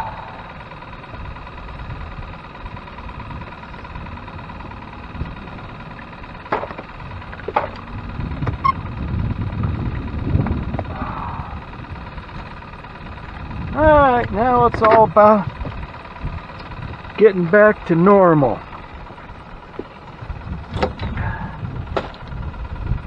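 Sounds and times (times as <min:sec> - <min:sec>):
gear knocking in boat: 0:00.0 - 0:23.0
steady low rumble: 0:00.0 - 0:23.0.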